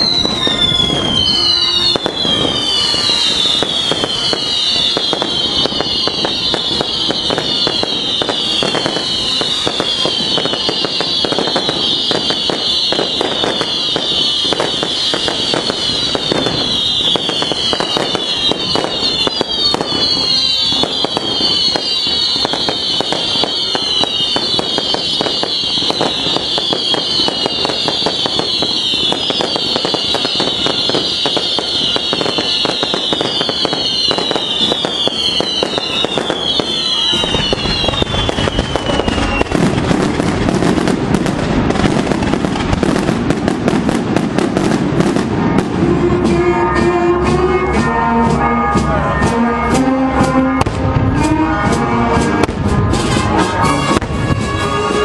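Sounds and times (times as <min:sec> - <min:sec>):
deep firework bangs: 0:00.0 - 0:46.4, 0:48.4 - 0:55.0
firecracker bangs crackling: 0:00.0 - 0:46.5, 0:47.9 - 0:55.0
brass band playing: 0:00.0 - 0:55.0
falling firework whistle: 0:00.0 - 0:55.0.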